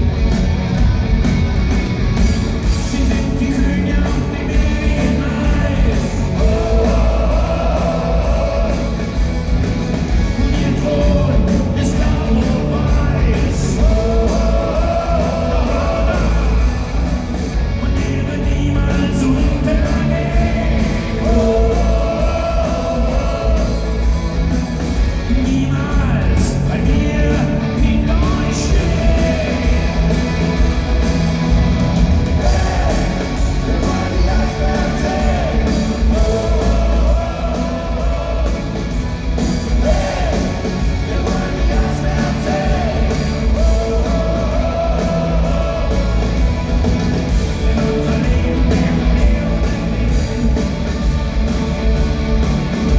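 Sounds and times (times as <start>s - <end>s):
live rock band playing: 0.0s - 52.9s.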